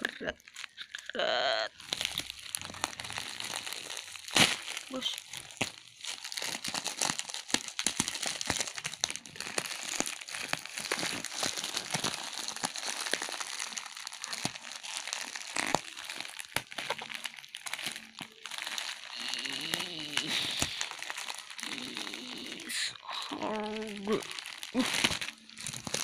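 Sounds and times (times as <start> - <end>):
plastic mailer bag crinkling: 0.0 - 26.0.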